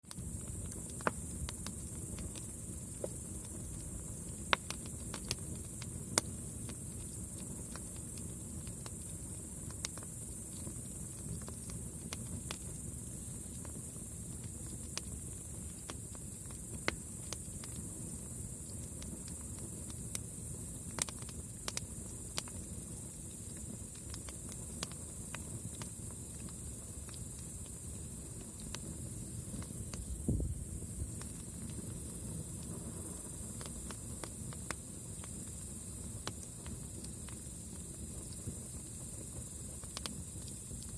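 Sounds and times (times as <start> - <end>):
campfire crackling and popping: 0.0 - 40.9
low rumble of flames: 0.1 - 40.9
night insects trilling: 0.2 - 40.9.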